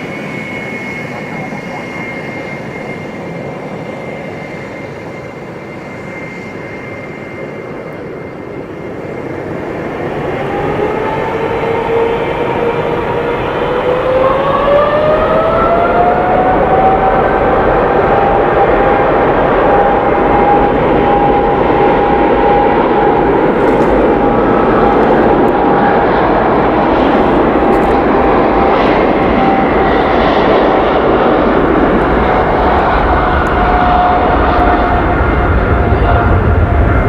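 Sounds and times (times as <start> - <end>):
jet engine roar: 0.0 - 37.0
jet engine whine: 0.0 - 37.0.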